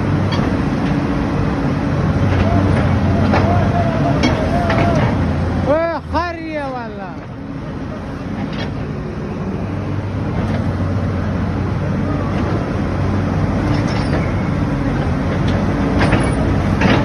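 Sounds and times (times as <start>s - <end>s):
excavator diesel engine humming: 0.0s - 17.0s.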